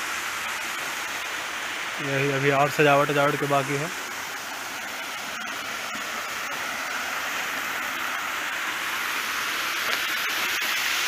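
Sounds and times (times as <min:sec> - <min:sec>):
water cascading over weir: 0:00.0 - 0:11.0.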